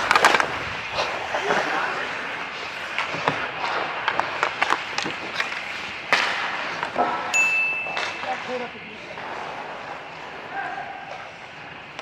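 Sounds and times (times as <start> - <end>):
stick and puck clacks: 0.0 - 1.6, 2.6 - 12.0
skate blades scraping ice: 0.0 - 7.3, 7.9 - 12.0.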